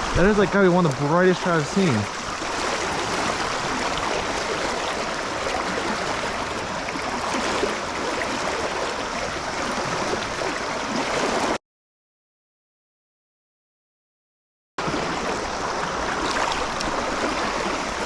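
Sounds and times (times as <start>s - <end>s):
stream water flowing: 0.0s - 11.6s, 14.8s - 18.0s.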